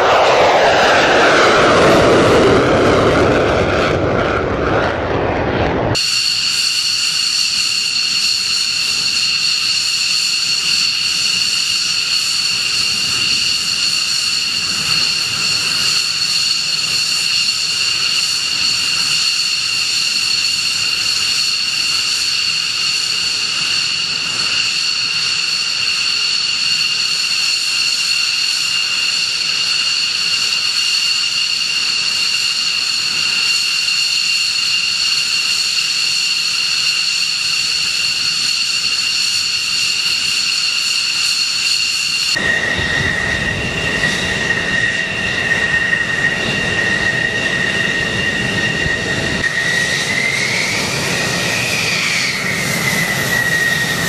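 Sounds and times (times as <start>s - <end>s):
high-pitched jet engine whine: 0.0s - 54.0s.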